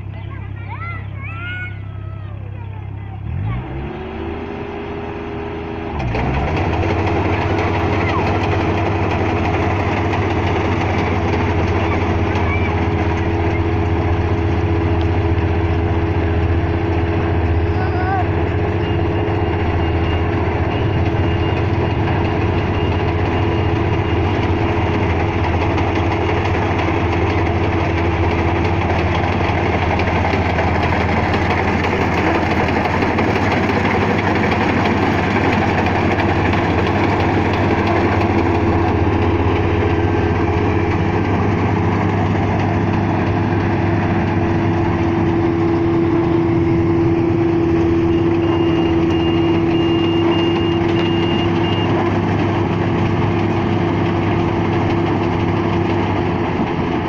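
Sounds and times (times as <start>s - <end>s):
combine harvester engine hum: 0.0s - 57.0s
machinery whine: 4.8s - 57.0s.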